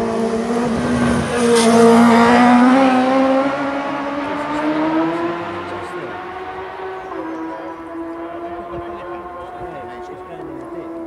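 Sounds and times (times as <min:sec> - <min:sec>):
racing motorcycle engine passing: 0:00.0 - 0:11.0.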